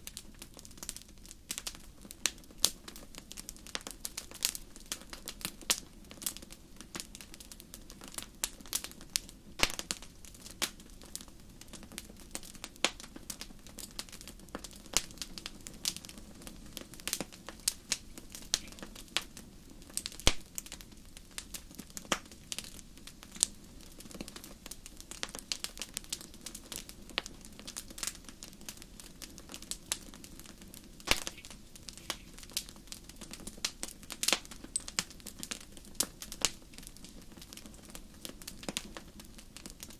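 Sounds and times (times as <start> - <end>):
fire crackling and popping: 0.0 - 39.9
flames rushing: 5.2 - 39.9.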